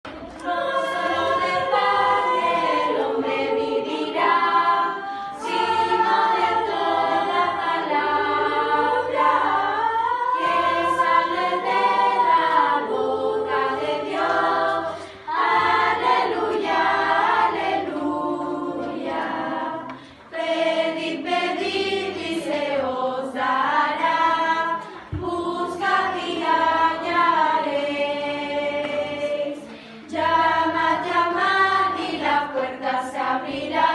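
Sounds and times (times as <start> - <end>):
choir singing: 0.1 - 33.9.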